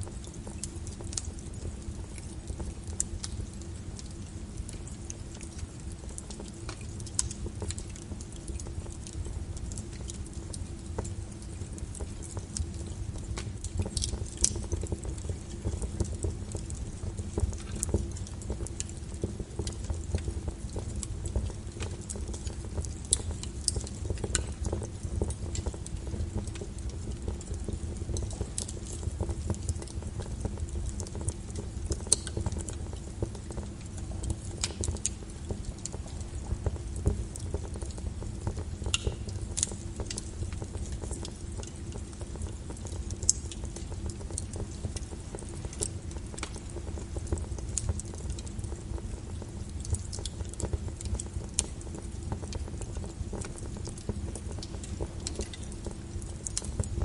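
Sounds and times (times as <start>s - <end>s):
burning wood crackling and popping: 0.0s - 57.0s
low roar of flame: 0.0s - 57.0s.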